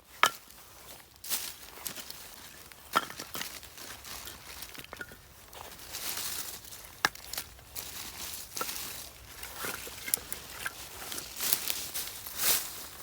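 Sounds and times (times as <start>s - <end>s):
rustling: 0.8s - 13.0s.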